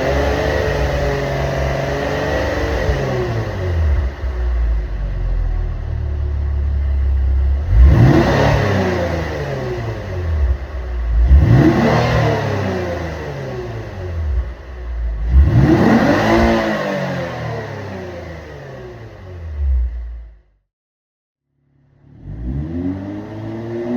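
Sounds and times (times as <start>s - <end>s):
car engine idling and revving: 0.0s - 20.6s, 21.7s - 23.9s.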